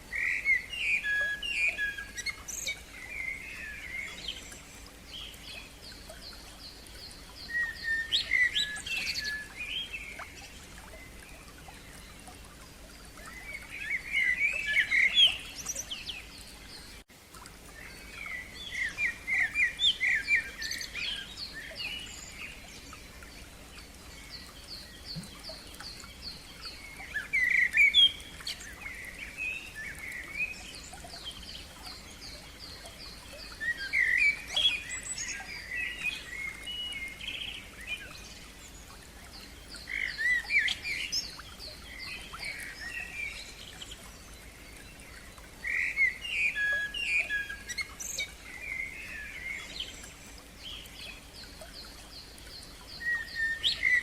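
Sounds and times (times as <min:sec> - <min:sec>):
faint steady hiss: 0:00.0 - 0:54.0
songbirds singing: 0:00.0 - 0:54.0.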